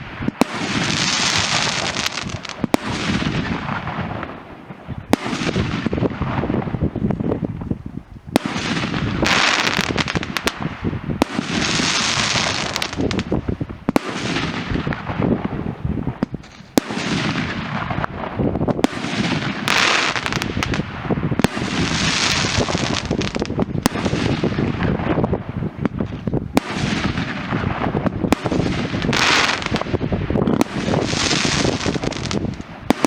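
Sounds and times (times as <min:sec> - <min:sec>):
fireworks banging and crackling: 0:00.0 - 0:33.0.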